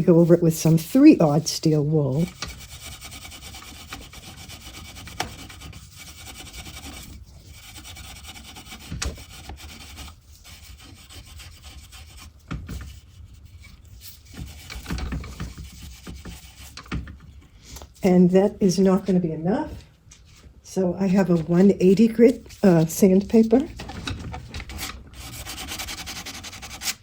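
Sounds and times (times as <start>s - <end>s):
steel wool rubbing on wood: 0.0s - 17.2s, 21.1s - 24.0s, 24.6s - 27.0s.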